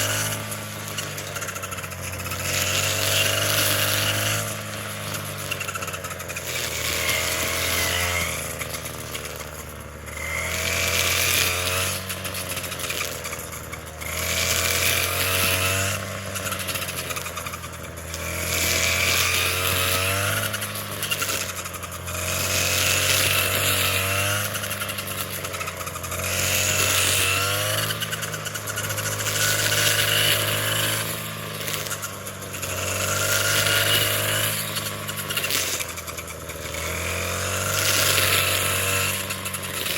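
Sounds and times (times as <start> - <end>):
small engine machine running: 0.0 - 39.9.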